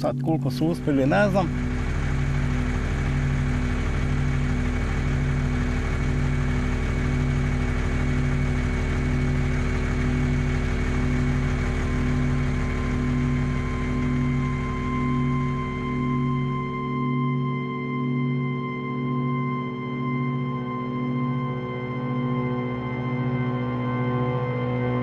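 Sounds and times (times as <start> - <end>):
ambient music drone: 0.0 - 25.0.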